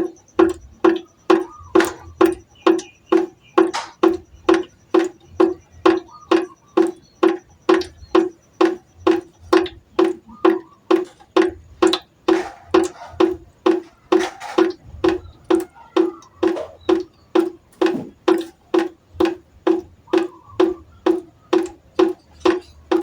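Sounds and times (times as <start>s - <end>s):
water drops plinking into pot: 0.0s - 23.0s.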